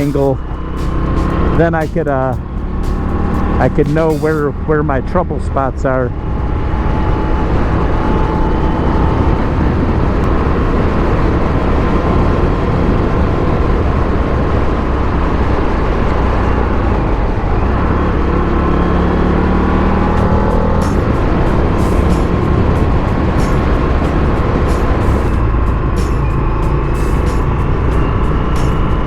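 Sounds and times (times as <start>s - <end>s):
motorcycle engine running: 0.0s - 29.0s
wind and road noise: 0.0s - 29.0s.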